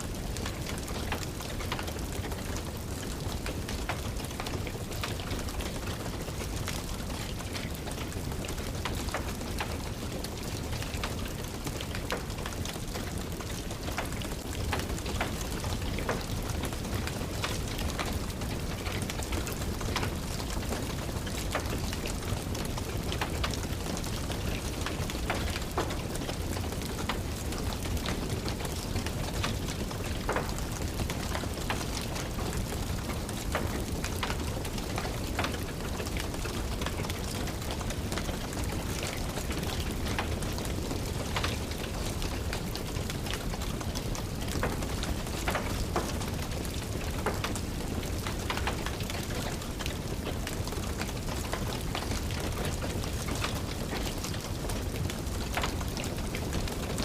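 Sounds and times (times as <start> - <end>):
rain pattering: 0.0 - 57.0
wood fire crackling: 0.0 - 57.0.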